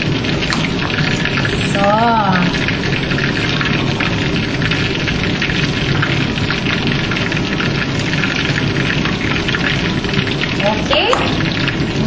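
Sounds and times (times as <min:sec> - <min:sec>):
soup boiling in a pot: 0:00.0 - 0:12.0.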